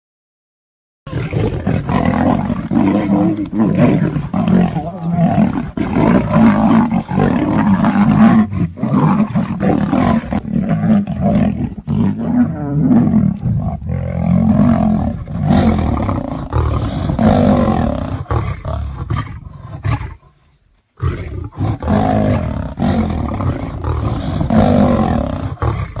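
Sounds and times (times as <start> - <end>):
big cats roaring and growling: 1.1 - 20.4, 21.0 - 26.0.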